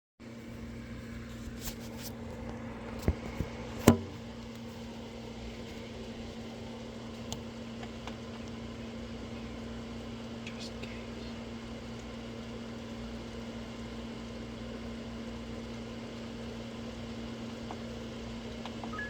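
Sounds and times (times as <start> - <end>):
electrical hum: 0.2 - 19.0.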